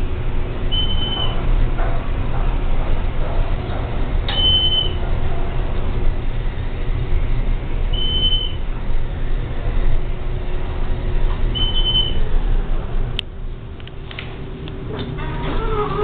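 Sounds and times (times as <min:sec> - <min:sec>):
elevator running with low rumble: 0:00.0 - 0:16.0.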